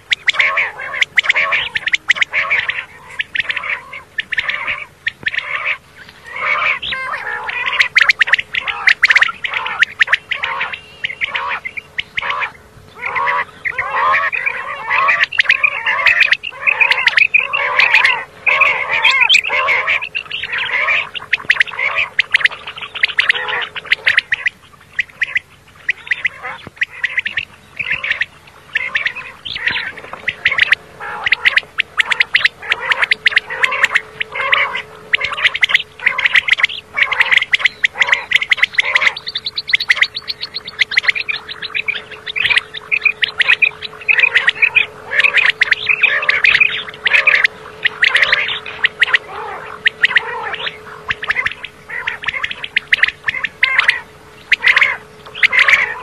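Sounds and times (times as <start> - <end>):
faint steady hum: 0.0 - 56.0
quail calling: 0.0 - 56.0.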